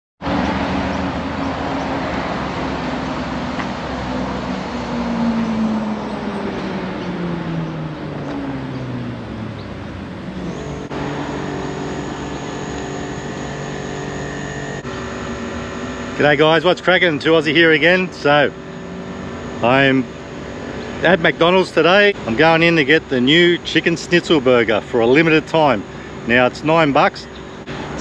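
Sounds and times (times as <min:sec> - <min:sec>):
vehicle engine pitch falling: 0:00.2 - 0:26.5
road traffic noise: 0:00.2 - 0:28.0
steady engine hum: 0:00.2 - 0:28.0.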